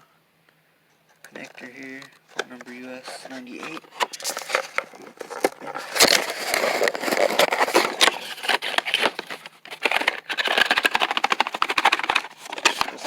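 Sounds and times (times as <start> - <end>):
packaging crinkling: 1.3 - 13.0.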